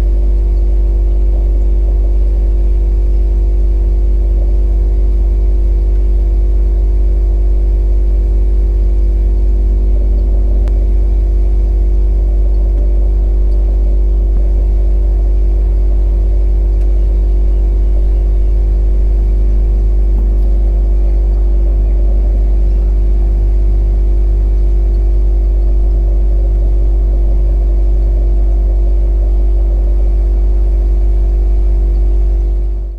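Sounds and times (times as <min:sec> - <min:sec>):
drone propellers humming: 0:00.0 - 0:32.9.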